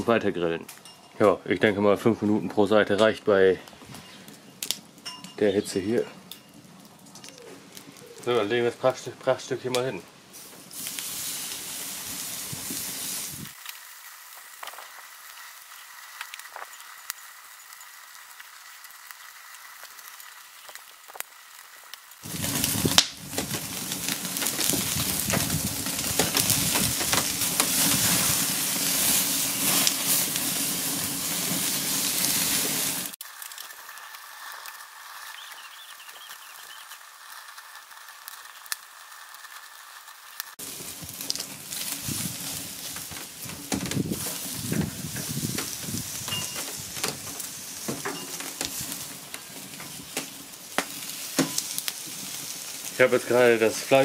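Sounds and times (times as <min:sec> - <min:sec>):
wood fire crackling: 0:00.0 - 0:54.0
steak sizzling on grill: 0:03.2 - 0:54.0.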